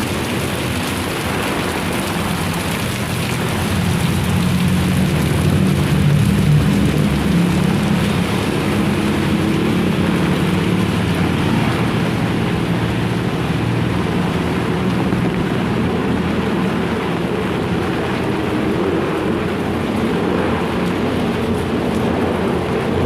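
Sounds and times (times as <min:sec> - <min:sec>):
heavy rain: 0:00.0 - 0:23.0
strong wind: 0:00.0 - 0:23.0.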